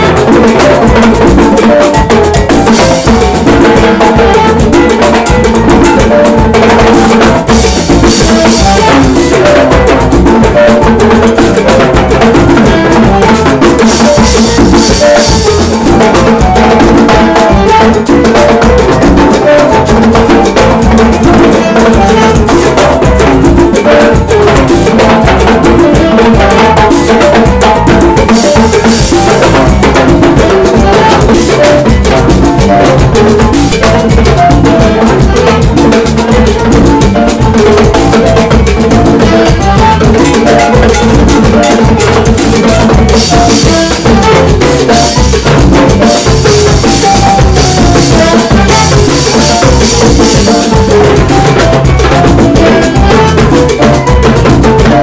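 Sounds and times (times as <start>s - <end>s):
live salsa band playing: 0.0s - 55.0s
timbales and drum kit solo: 0.0s - 55.0s.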